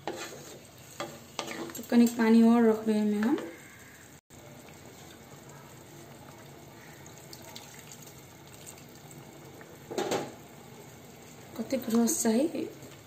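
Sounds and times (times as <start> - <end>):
curry simmering hiss: 0.0 - 13.0.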